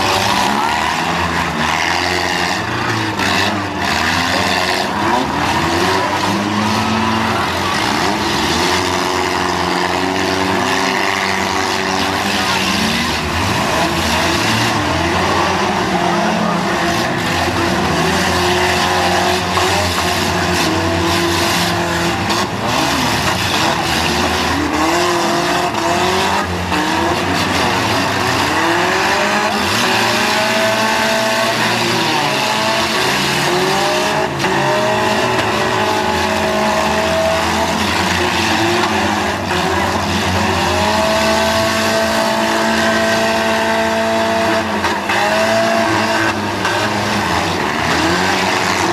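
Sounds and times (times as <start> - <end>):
car engines revving: 0.0 - 48.9.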